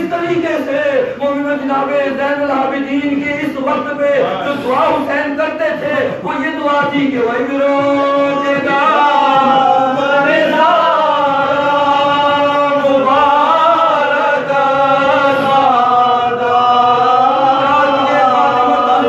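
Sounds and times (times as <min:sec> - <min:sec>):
man chanting a lament: 0:00.0 - 0:19.0.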